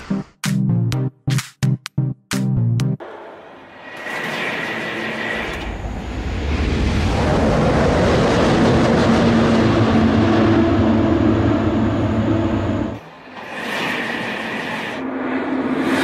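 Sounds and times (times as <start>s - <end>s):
maglev train rushing past: 3.0s - 16.0s.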